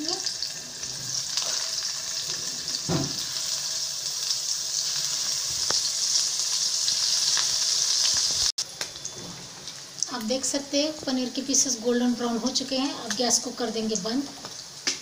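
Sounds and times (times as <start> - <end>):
cheese frying in pan: 0.0 - 15.0.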